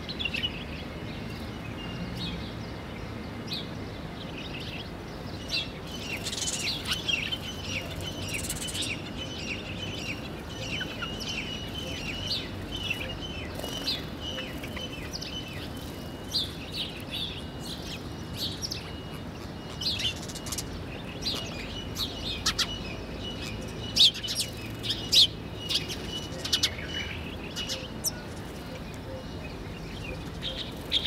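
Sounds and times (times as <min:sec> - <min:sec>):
sparrows chirping: 0:00.0 - 0:31.0.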